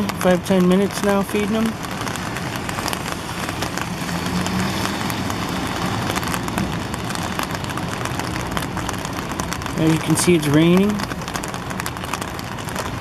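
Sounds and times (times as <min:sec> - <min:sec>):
rain drops ticking: 0:00.0 - 0:13.0.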